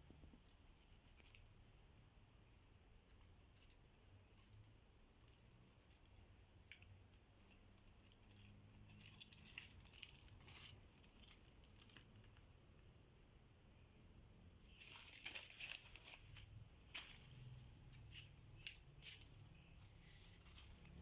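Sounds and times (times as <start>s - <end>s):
faint scratches and rustles: 0.0s - 2.1s, 2.9s - 12.5s, 14.6s - 21.0s
faint high insect drone: 0.0s - 21.0s.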